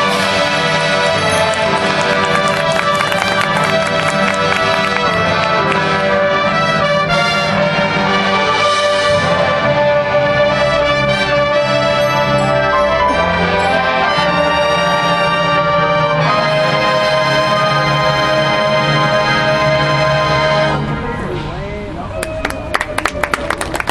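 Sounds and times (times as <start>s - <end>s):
brass band playing chords: 0.0s - 22.2s.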